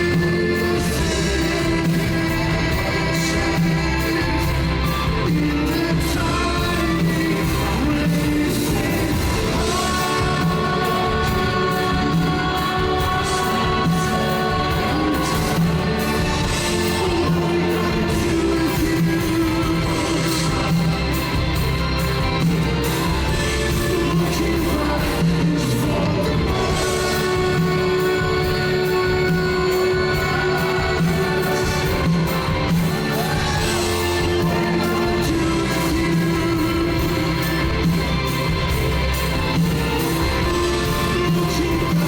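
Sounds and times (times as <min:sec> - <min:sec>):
person singing: 0:00.0 - 0:42.0.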